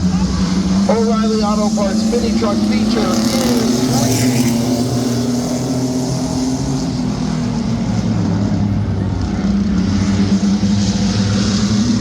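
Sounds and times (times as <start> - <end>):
racing truck engines droning: 0.0 - 12.0.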